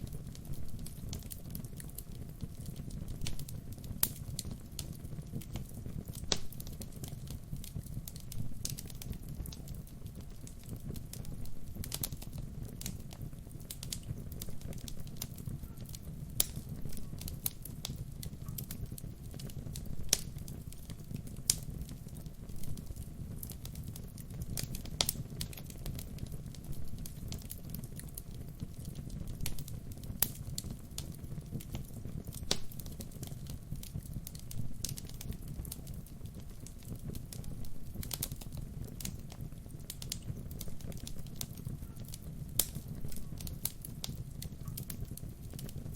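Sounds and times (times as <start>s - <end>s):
fire crackling and popping: 0.0s - 45.9s
low rumble of flames: 0.0s - 45.9s.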